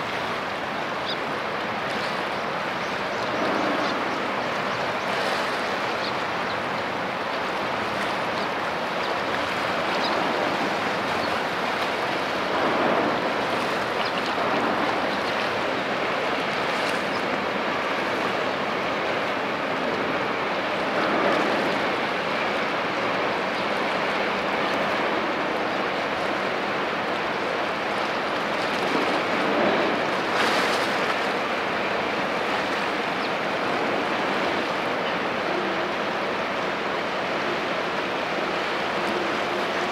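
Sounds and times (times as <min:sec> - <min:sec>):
sea waves washing: 0:00.0 - 0:39.9.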